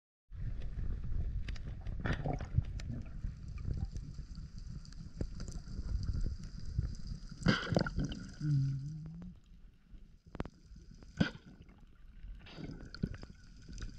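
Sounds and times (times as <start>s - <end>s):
muffled underwater rumble: 0.3s - 13.9s.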